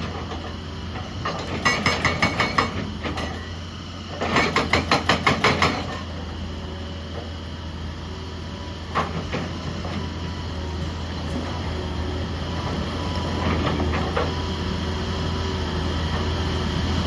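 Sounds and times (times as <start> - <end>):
excavator running: 0.0 - 17.0.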